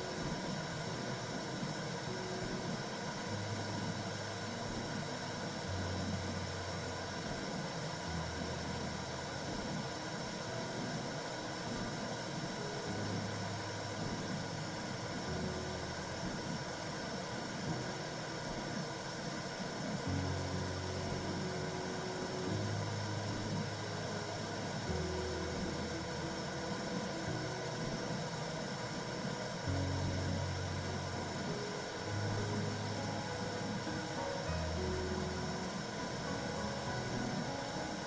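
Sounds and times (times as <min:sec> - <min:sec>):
rumbling white noise hiss: 0:00.0 - 0:38.0
soft low held tones: 0:00.0 - 0:38.0.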